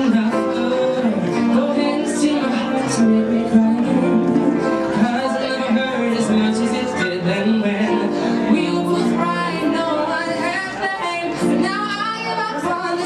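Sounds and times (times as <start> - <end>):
man singing into a microphone: 0.0 - 13.0
piano accompaniment: 0.0 - 13.0.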